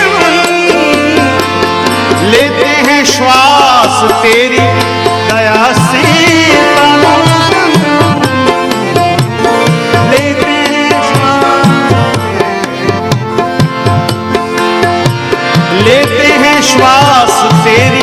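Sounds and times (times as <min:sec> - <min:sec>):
tabla rhythm: 0:00.0 - 0:18.0.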